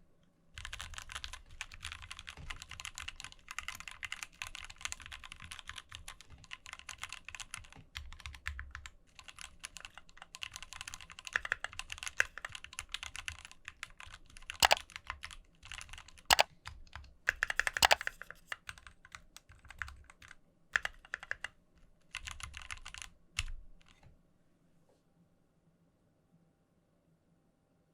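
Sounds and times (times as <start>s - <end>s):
mechanical keyboard typing: 0.6s - 23.6s.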